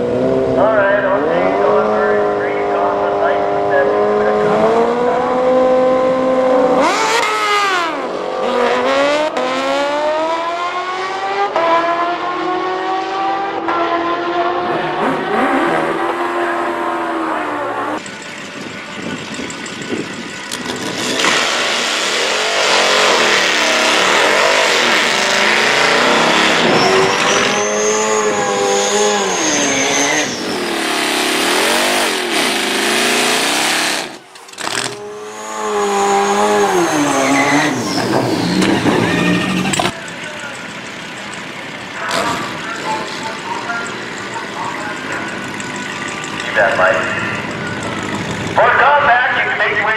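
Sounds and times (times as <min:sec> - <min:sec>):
drag racing cars accelerating: 0:00.0 - 0:49.9.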